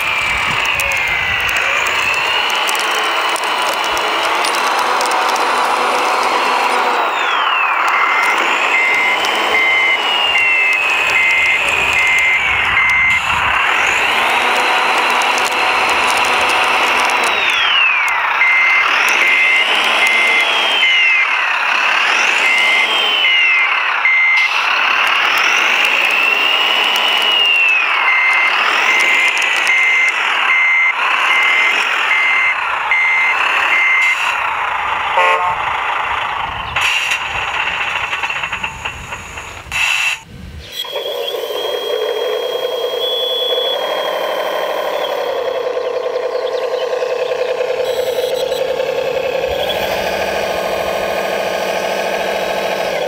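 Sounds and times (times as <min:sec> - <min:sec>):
motor whine: 0:00.0 - 0:34.7, 0:40.8 - 0:53.0
reversing beeper beeps: 0:00.1 - 0:03.8, 0:06.4 - 0:24.6, 0:25.2 - 0:34.4, 0:40.0 - 0:53.0.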